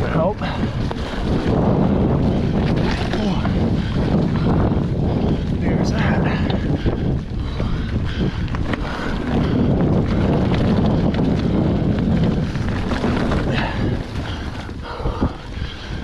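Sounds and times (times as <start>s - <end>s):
bike clicks and rattles: 0.0s - 16.0s
wind rumble on microphone: 0.0s - 16.0s
bike tyres crunching dry leaves: 0.5s - 6.4s, 7.5s - 15.2s.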